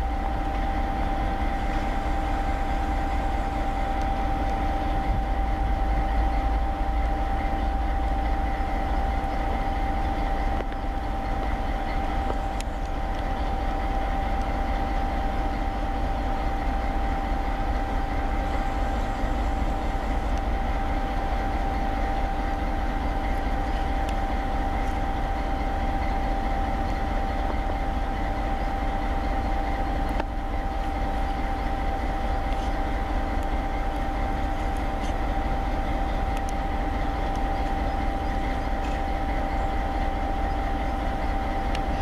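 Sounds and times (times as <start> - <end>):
diesel locomotive idling: 0.0 - 42.0
high-pitched whine: 0.0 - 42.0.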